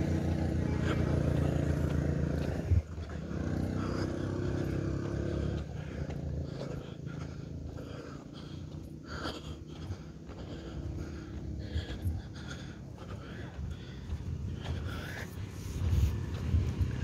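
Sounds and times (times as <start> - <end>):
motorbike engine passing by: 0.0 - 9.0, 9.8 - 17.0.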